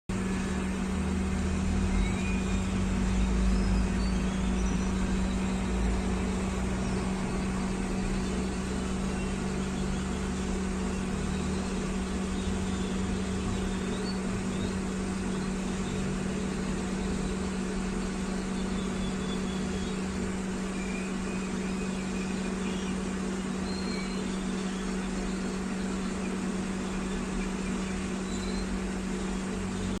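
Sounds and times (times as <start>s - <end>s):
microwave oven humming: 0.1s - 30.0s.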